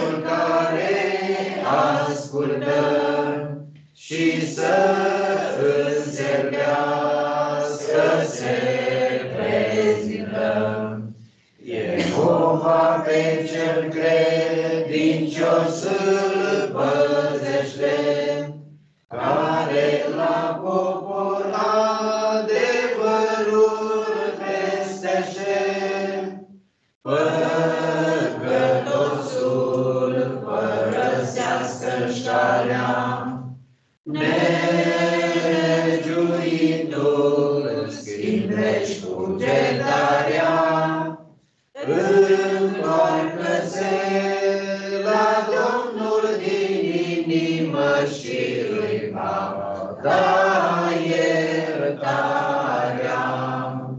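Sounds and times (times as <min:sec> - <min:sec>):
choir singing a hymn: 0:00.0 - 0:26.5, 0:27.1 - 0:53.9.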